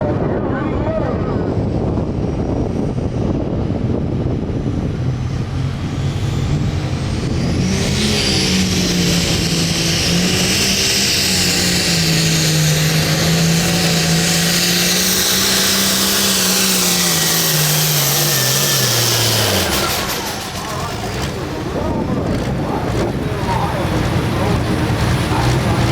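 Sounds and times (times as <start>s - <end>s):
diesel engine revving under load: 1.7s - 25.9s.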